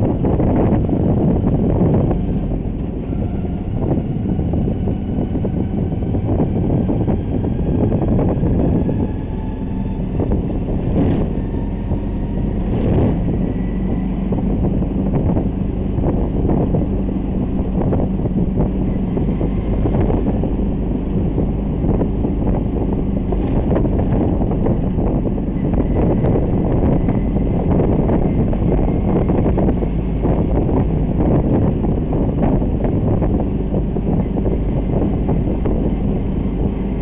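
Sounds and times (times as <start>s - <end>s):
vehicle engine and road noise: 0.0s - 37.0s
wind buffeting microphone: 0.0s - 37.0s.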